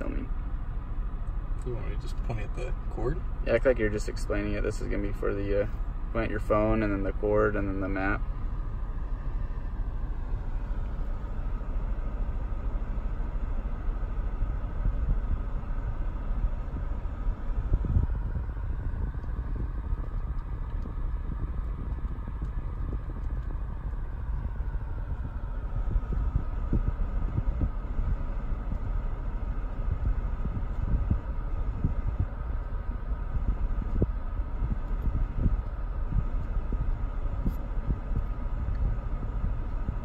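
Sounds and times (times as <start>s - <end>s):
car engine idling: 0.0s - 40.0s
faint whine drifting in pitch: 0.0s - 40.0s.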